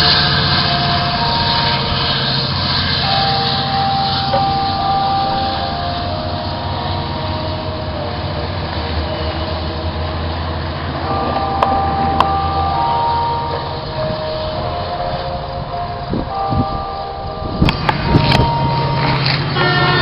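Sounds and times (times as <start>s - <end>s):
passenger train running by: 0.0s - 20.0s.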